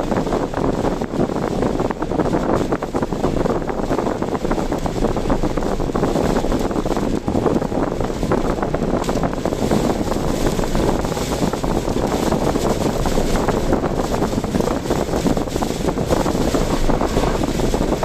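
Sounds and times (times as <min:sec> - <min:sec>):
storm wind buffeting microphone: 0:00.0 - 0:18.0
wet road noise: 0:00.0 - 0:18.0.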